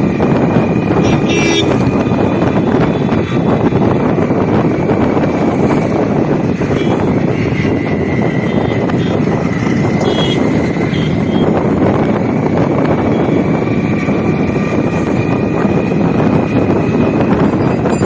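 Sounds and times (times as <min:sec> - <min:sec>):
motorcycle running: 0:00.0 - 0:18.0
wind rushing over microphone: 0:00.0 - 0:18.0.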